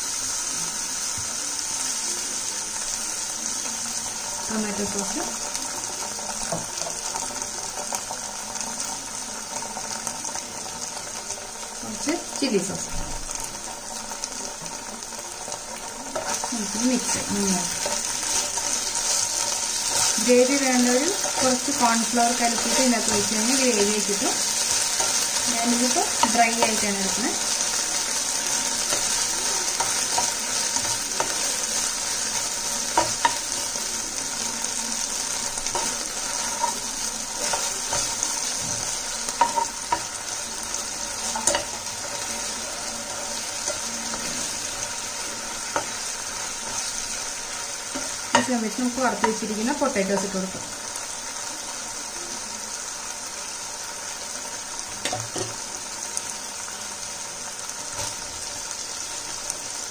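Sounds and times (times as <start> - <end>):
sauce sizzling in a pan: 0.0 - 59.9.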